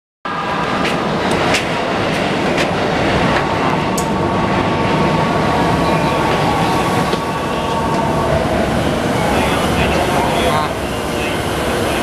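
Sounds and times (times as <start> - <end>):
busy platform noise: 0.3 - 12.0
electric train equipment humming: 0.3 - 12.0.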